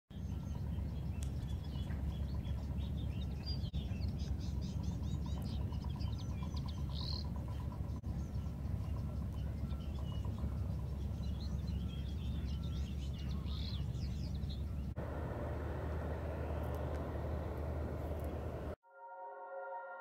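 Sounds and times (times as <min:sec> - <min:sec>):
birds chirping and trilling: 0:00.1 - 0:18.8
steady low rumble: 0:00.1 - 0:18.8.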